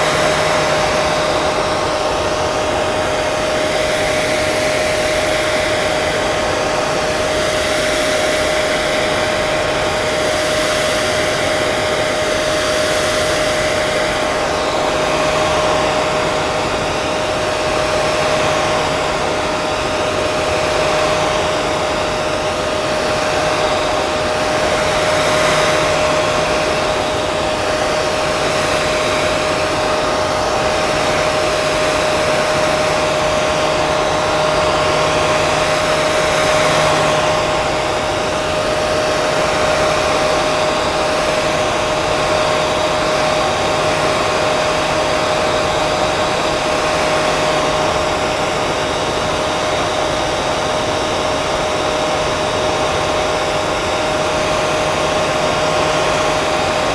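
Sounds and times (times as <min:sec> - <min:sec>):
hair dryer running: 0:00.0 - 0:56.9.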